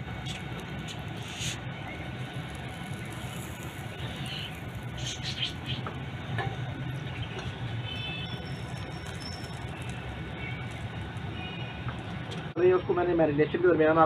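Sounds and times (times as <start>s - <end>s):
steady low hum: 0.0s - 12.6s
faint crackling over charcoal: 0.0s - 13.6s.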